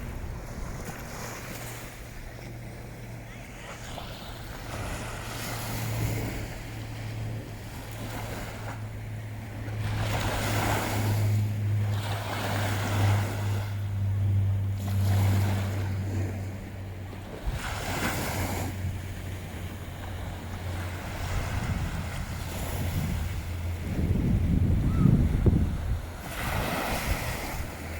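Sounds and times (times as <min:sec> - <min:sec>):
steady low drone: 0:00.0 - 0:27.9
surf washing on beach: 0:00.0 - 0:27.9
wind buffeting microphone: 0:00.0 - 0:27.9.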